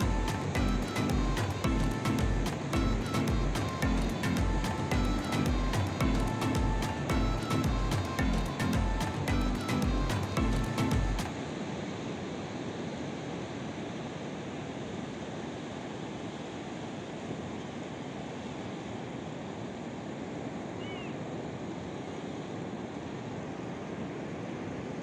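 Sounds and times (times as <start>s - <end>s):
surf washing over shore: 0.0s - 25.0s.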